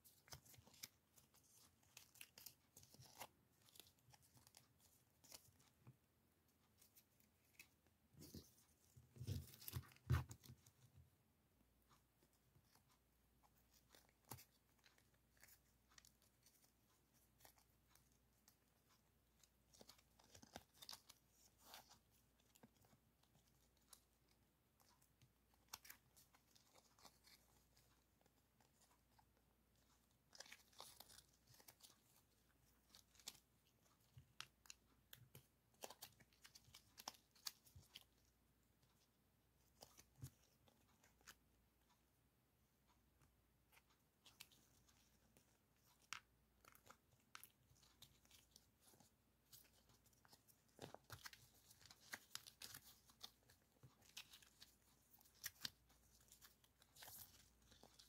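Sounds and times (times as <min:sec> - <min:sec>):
paper rustling and crinkling: 0:00.0 - 0:05.9, 0:06.6 - 0:10.8, 0:12.6 - 0:41.4, 0:43.8 - 0:58.0.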